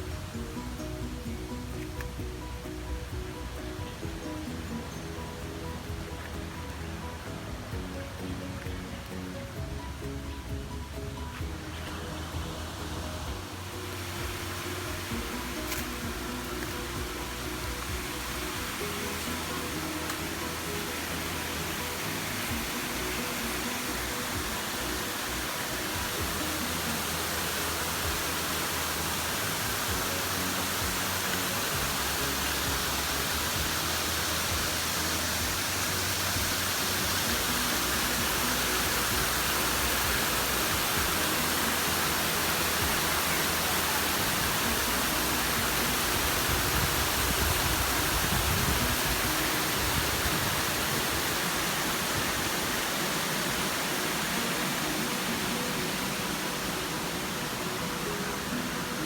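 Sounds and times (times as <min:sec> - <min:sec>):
faint background music: 0:00.0 - 0:59.0
waterfall rushing: 0:00.0 - 0:59.0.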